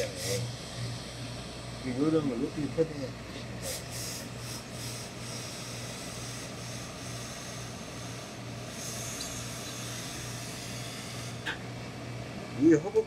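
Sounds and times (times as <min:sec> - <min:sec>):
steam iron hum and hiss: 0:00.0 - 0:13.0.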